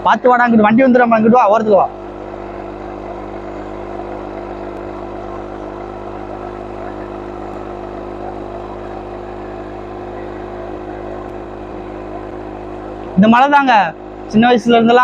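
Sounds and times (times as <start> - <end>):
moped engine labouring uphill: 0.0 - 15.0.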